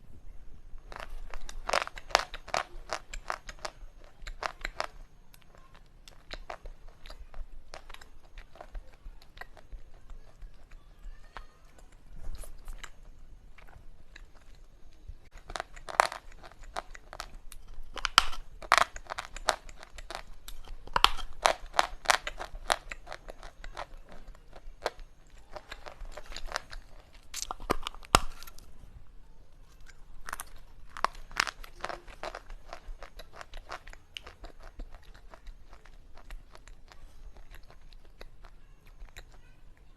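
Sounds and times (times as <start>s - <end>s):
sharp crunching chewing: 0.8s - 28.8s, 29.6s - 39.9s.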